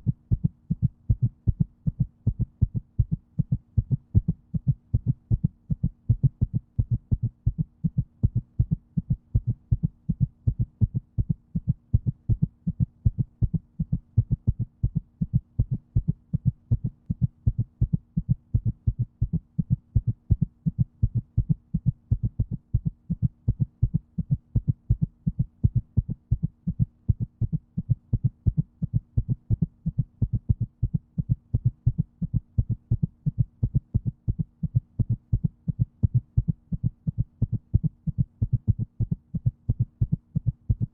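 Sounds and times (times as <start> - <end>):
faint steady hum: 0.0 - 40.9
heartbeat thuds: 0.0 - 40.9.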